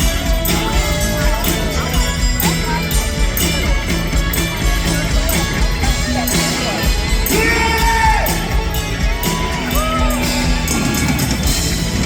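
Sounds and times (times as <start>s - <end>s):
live rock band playing: 0.0s - 12.0s
people shouting: 0.0s - 12.0s.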